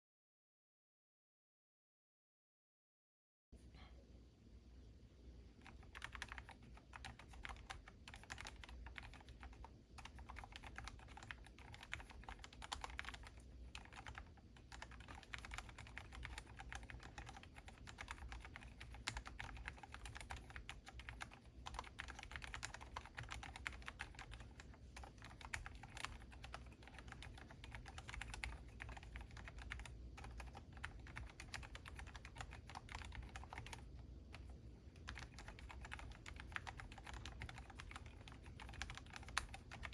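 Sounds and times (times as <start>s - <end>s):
mechanical keyboard typing: 5.6s - 39.9s.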